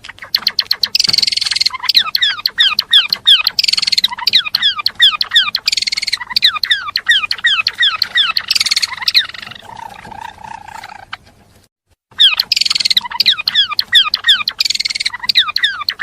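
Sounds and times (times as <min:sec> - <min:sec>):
songbird singing: 0:00.0 - 0:11.3, 0:12.1 - 0:16.0.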